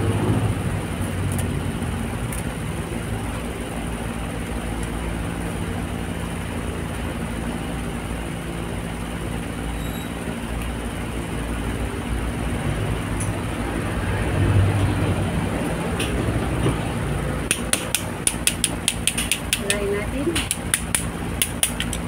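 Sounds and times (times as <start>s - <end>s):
mechanical droning hum: 0.0s - 22.0s.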